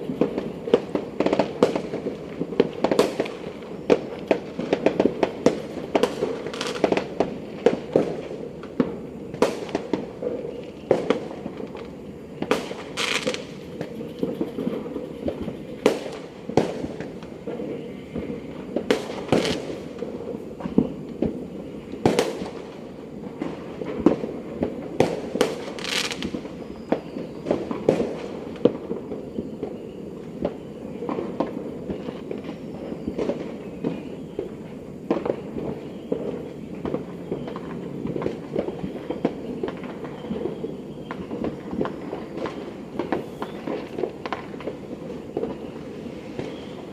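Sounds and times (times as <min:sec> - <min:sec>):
fireworks and firecrackers popping: 0:00.0 - 0:46.9.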